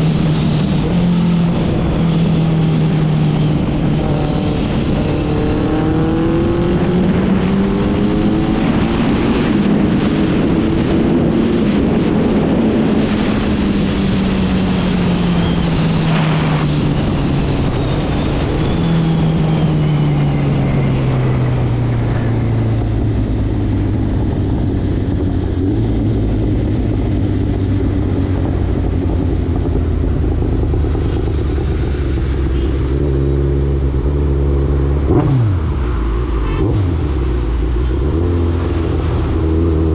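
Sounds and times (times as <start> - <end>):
motorcycle engine revving: 0.0 - 19.7, 20.3 - 39.9.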